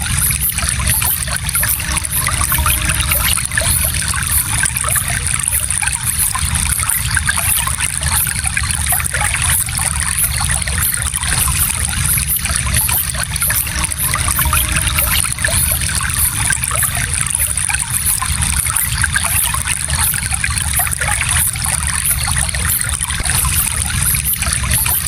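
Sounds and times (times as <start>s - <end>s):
stream flowing over stones: 0.0s - 25.0s.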